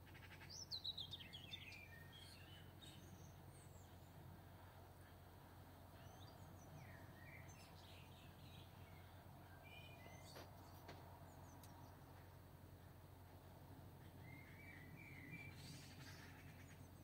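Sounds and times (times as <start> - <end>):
faint bird chirps: 0.0 - 12.3, 14.0 - 17.0
low steady hum: 0.0 - 17.0.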